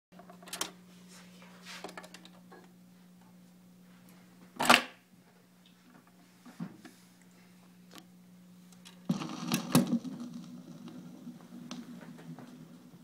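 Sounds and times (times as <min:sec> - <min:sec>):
record player humming: 0:00.2 - 0:13.0.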